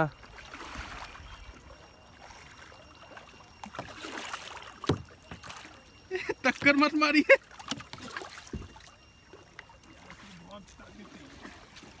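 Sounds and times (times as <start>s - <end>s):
kayak paddles splashing water: 0.1s - 12.0s.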